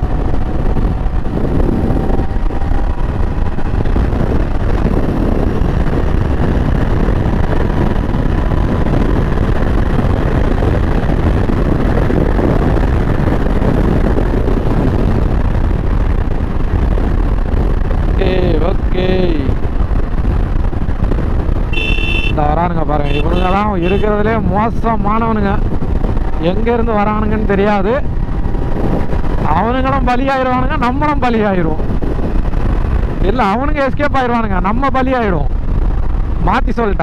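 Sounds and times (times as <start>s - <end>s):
motorcycle engine running: 0.0s - 30.1s
wind rush on microphone: 0.0s - 37.0s.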